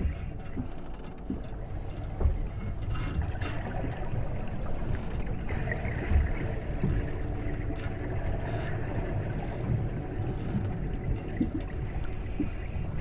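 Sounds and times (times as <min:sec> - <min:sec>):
water ambience: 0:00.0 - 0:13.0.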